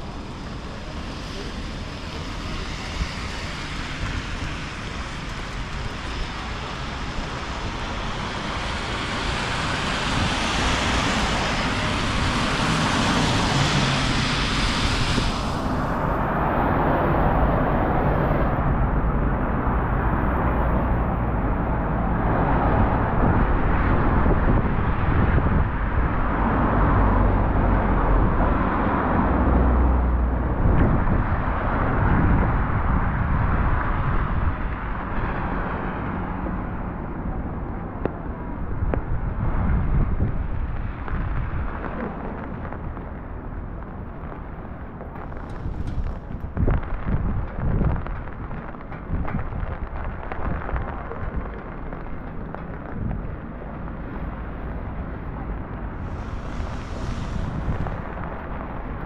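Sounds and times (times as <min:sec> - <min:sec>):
rain: 0:00.0 - 0:59.0
tyres on wet road: 0:00.0 - 0:59.0
wind buffeting microphone: 0:00.0 - 0:59.0.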